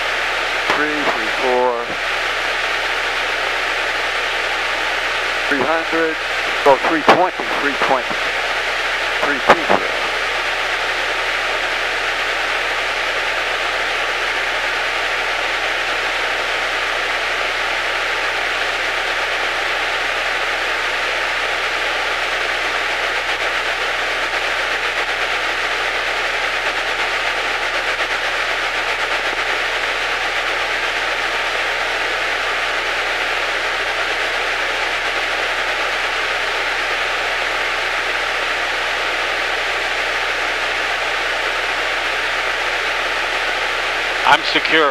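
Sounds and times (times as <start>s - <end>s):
radio static hiss: 0.0s - 44.9s.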